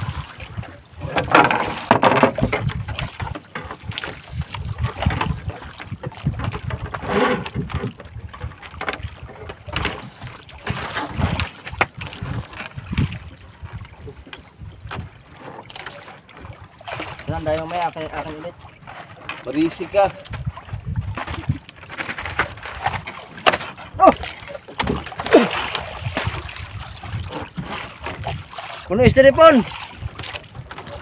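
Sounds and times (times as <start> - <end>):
wind on microphone: 0.0 - 15.6, 19.7 - 23.2, 23.8 - 31.0
water slapping boat hull: 0.0 - 31.0.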